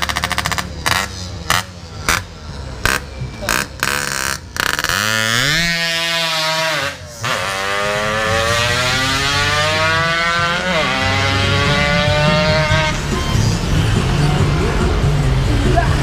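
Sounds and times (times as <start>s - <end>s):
motorcycle accelerating hard: 0.0s - 15.6s.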